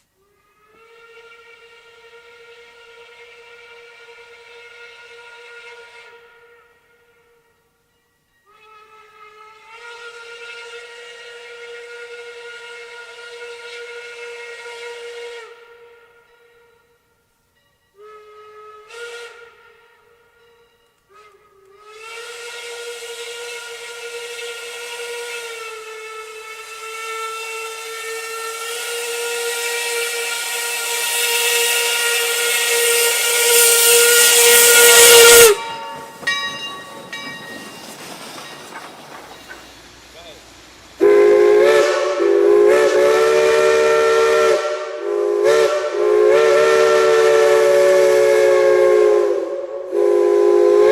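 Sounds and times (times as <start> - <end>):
steam locomotive whistle: 0.0 - 17.3, 17.9 - 37.8, 38.4 - 50.9.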